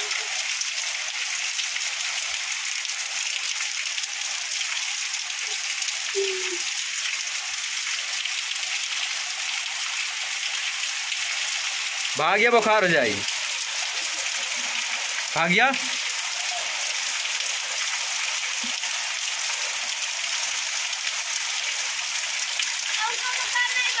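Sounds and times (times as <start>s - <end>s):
heavy rain on standing water: 0.0s - 24.0s.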